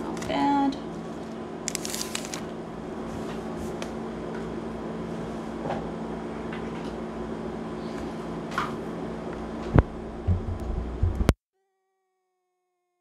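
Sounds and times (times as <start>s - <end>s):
low room hum: 0.0s - 11.3s.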